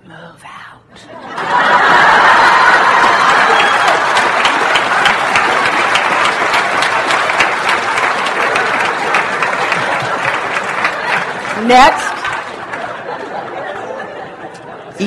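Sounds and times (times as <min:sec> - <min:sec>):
audience applauding: 0:01.4 - 0:14.8.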